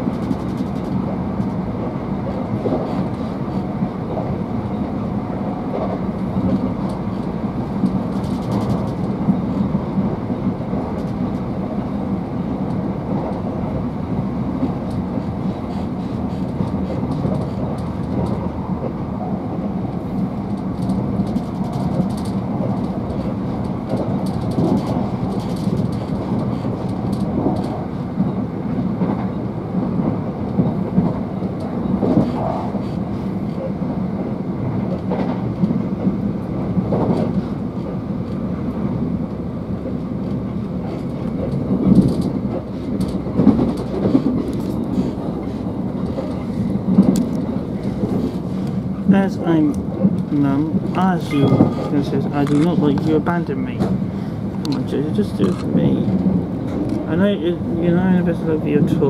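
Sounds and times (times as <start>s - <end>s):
clicks and knocks from track: 0.0s - 1.6s, 2.2s - 4.3s, 5.7s - 9.8s, 10.4s - 11.5s, 14.6s - 19.0s, 20.4s - 29.4s, 30.0s - 33.8s, 34.7s - 38.9s, 39.8s - 57.1s
train wheels rumbling on rails: 0.0s - 59.0s.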